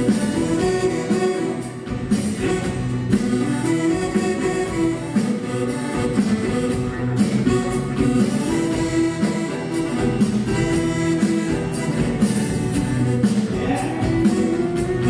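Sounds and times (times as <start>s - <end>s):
accordion: 0.0s - 15.0s
electric bass: 0.0s - 15.0s.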